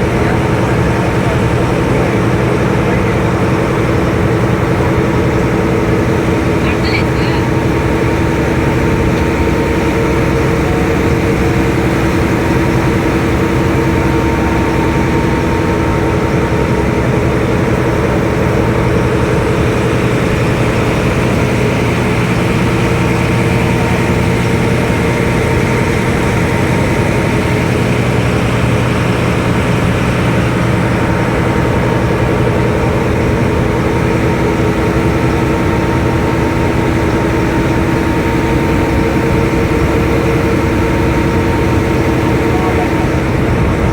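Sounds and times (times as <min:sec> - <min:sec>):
ferry engine droning: 0:00.0 - 0:43.9.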